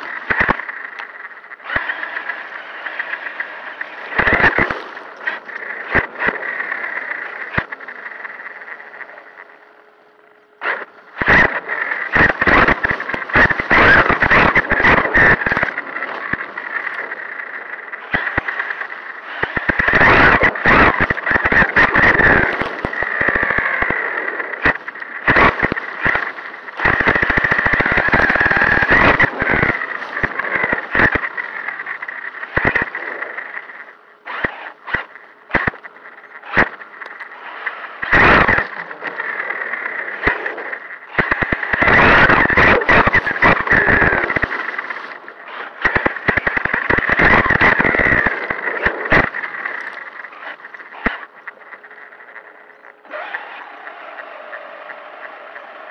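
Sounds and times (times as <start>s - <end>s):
electric motor whining: 0.0s - 55.9s.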